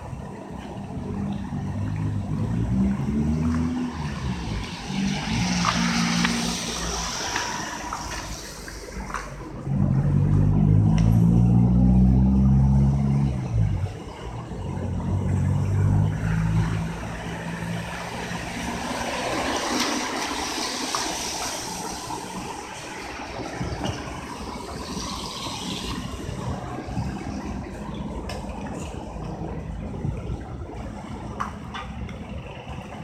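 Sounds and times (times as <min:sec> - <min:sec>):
tyres on wet road: 0:00.0 - 0:33.0
car engine passing: 0:01.4 - 0:28.2.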